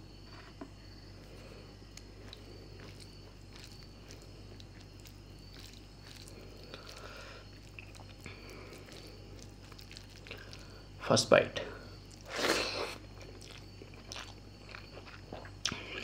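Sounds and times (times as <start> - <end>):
steady low hum: 0.0 - 16.0
soft squishy food handling: 0.2 - 11.1, 11.8 - 16.0.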